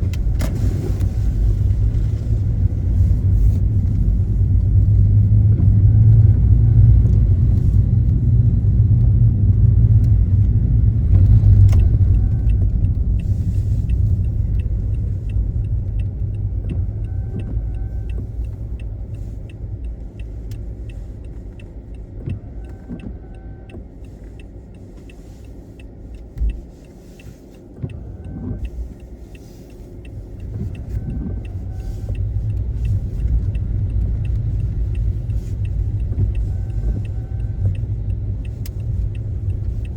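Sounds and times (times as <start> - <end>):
car engine and road noise: 0.0 - 39.9
light ticking: 0.0 - 39.9.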